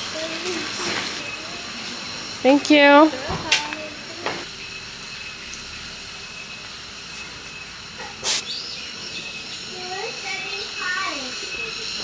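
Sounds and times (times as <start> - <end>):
faint high whine: 0.2 - 12.0.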